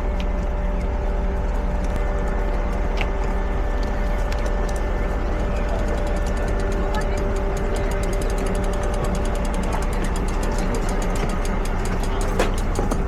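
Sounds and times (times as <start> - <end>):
electrical hum: 0.0 - 13.0
train carriage rumble: 0.0 - 13.0
faint clicks: 1.4 - 13.0.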